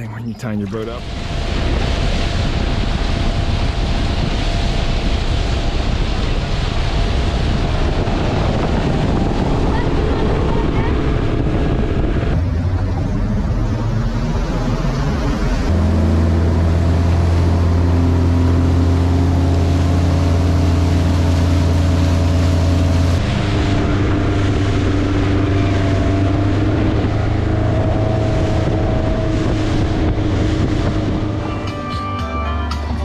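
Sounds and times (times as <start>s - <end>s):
motorboat engine running: 0.0s - 33.0s
wind on microphone: 0.4s - 31.7s.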